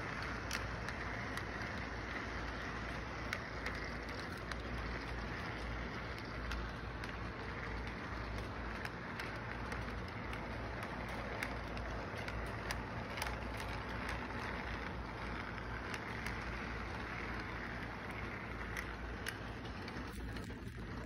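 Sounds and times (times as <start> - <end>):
low hum: 0.0 - 21.0
model train rattling on track: 0.0 - 21.0
wheels clicking over rail joints: 0.0 - 21.0.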